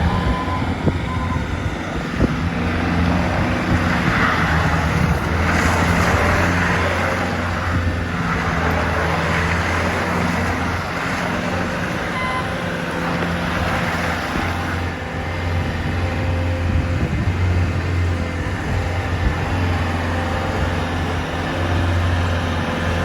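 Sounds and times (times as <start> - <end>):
diesel engine running with clatter: 0.0 - 23.0.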